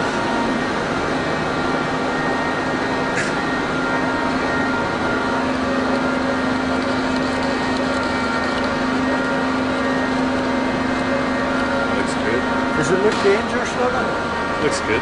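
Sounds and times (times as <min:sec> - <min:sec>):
lathe humming: 0:00.0 - 0:15.0.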